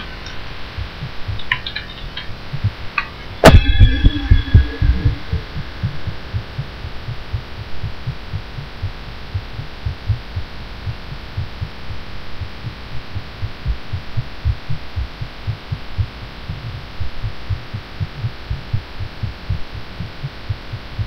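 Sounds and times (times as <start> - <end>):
steady hiss and hum: 0.0 - 21.0
fast heartbeat thumps: 0.7 - 21.0.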